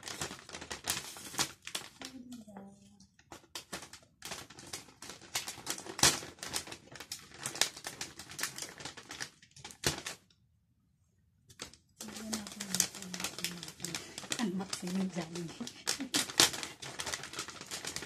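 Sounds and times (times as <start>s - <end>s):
paper bag crinkling: 0.0s - 2.3s, 3.2s - 10.2s, 11.5s - 18.0s.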